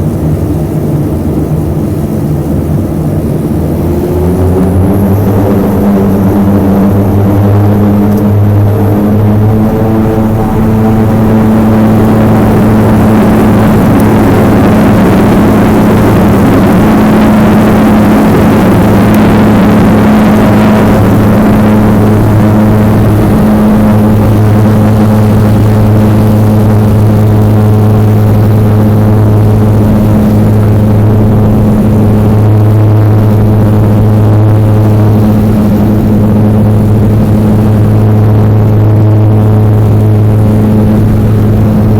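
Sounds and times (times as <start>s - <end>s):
turboprop propeller drone: 0.0s - 41.9s
rushing noise: 3.4s - 41.9s.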